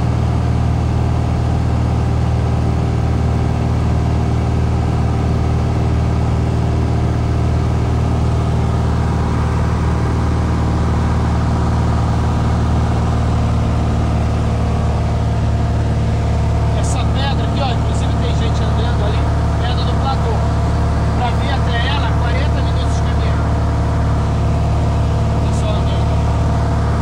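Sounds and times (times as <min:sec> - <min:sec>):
light plane engine hum: 0:00.0 - 0:27.0.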